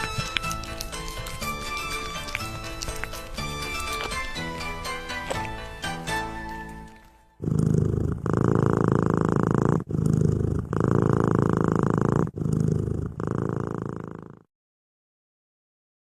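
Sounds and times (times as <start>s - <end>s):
cat purring: 0.0s - 5.8s, 6.8s - 14.5s.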